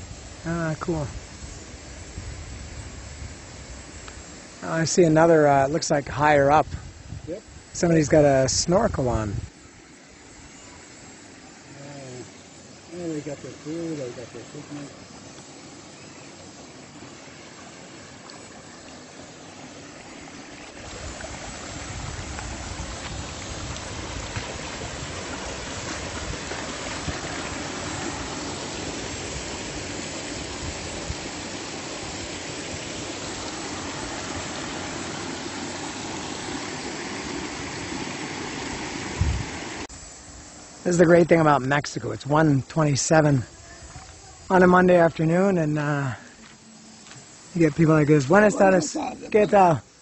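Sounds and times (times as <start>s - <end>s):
river water flowing: 0.0s - 6.6s, 7.6s - 50.0s.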